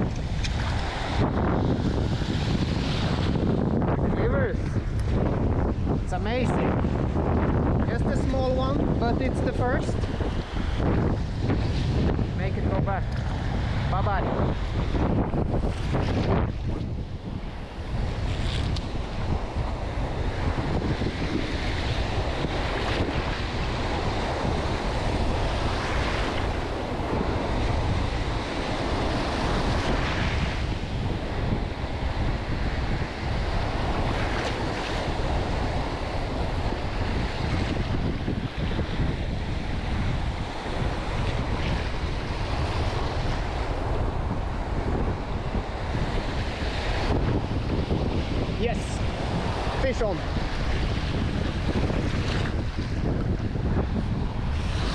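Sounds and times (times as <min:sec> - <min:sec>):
small waves breaking: 0:00.0 - 0:54.9
wind buffeting microphone: 0:00.0 - 0:54.9.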